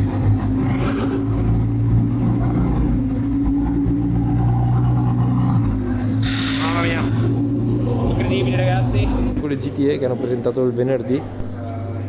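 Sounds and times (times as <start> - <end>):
race car engine running: 0.0 - 12.0.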